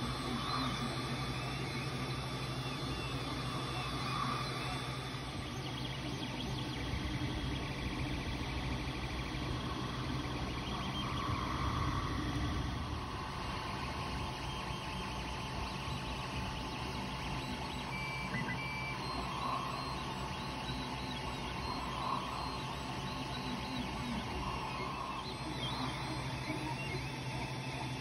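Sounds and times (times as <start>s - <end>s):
printer fans whirring: 0.0s - 28.0s
stepper motors whining: 0.0s - 28.0s.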